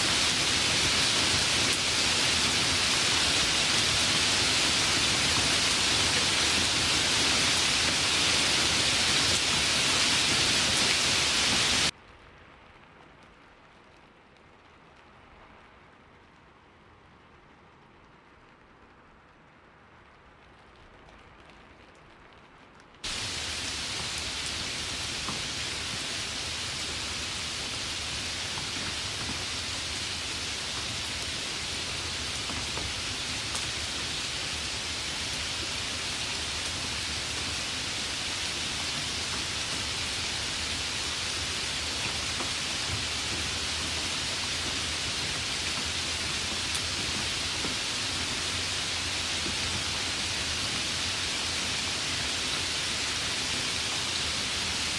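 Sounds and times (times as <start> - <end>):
steady rain hissing: 0.0 - 54.9.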